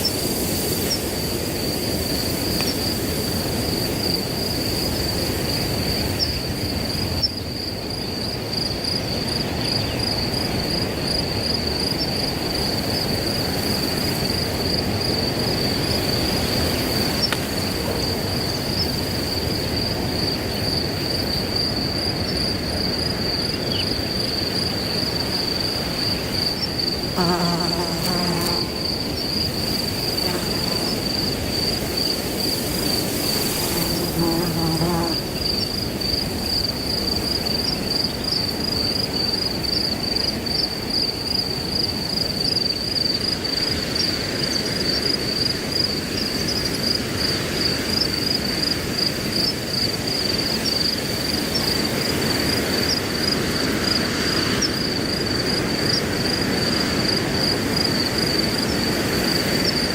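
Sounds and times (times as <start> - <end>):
crickets chirring: 0.0 - 59.9
wind rushing through grass: 0.0 - 59.9.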